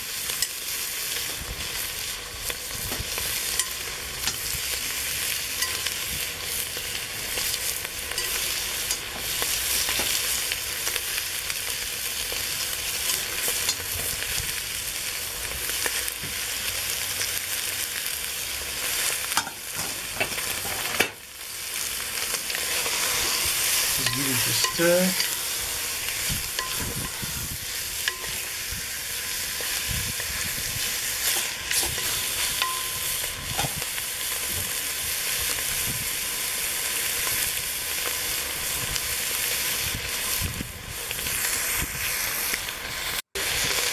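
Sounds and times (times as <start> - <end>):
meat sizzling in a pot: 0.0 - 43.9.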